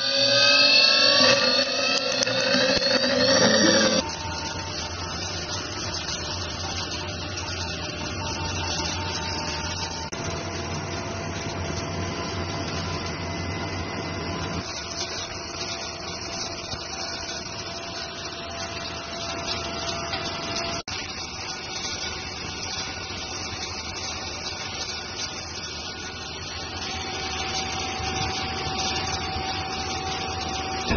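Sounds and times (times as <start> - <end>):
machine tools cutting metal: 0.0 - 10.5, 14.6 - 30.9
faint whining tones: 0.0 - 30.9.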